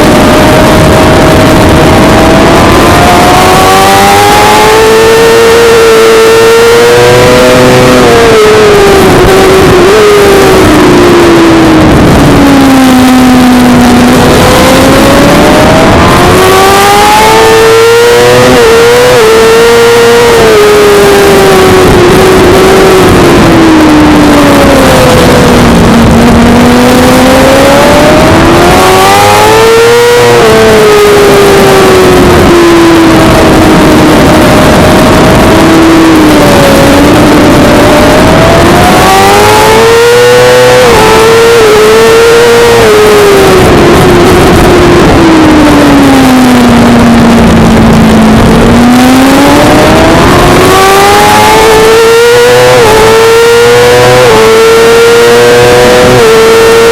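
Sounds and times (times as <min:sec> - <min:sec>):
dense rushing noise: 0:00.0 - 0:56.9
motorcycle engine at racing revs: 0:00.0 - 0:56.9.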